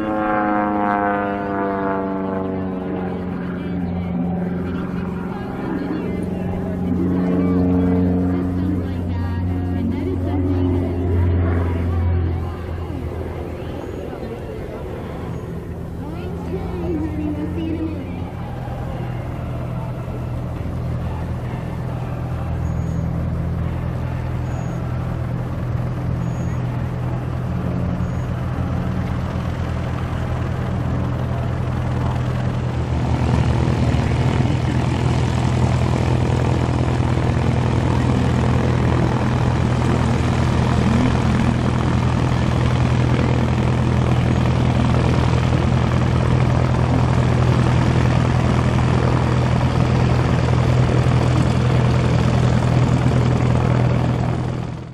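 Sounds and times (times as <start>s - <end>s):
propeller airplane engine running: 0.0s - 54.9s.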